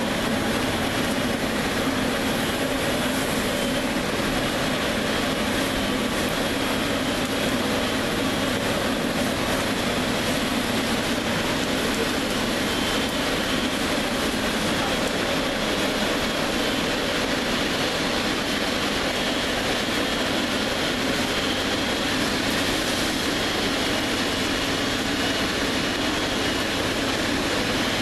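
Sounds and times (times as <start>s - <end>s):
jet engines of taxiing airliner: 0.0s - 28.0s.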